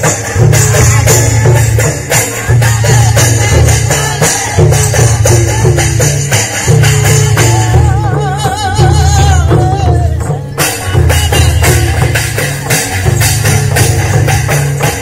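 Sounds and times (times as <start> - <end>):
jingling percussion: 0.0 - 15.0.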